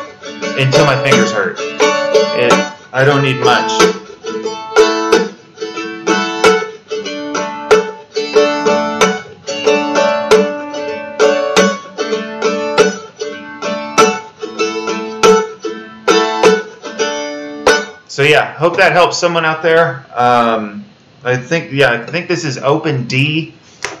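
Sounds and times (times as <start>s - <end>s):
mandolin strumming: 0.0s - 19.5s, 21.3s - 22.8s.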